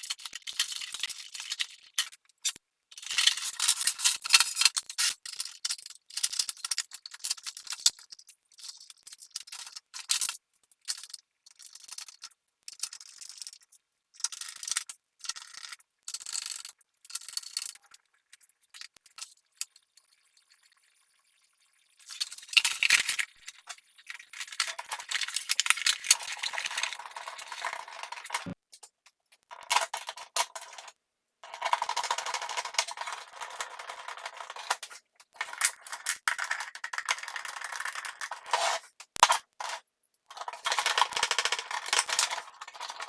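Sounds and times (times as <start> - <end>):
small hard parts rattling and clinking: 0.0 - 19.9, 22.0 - 43.0.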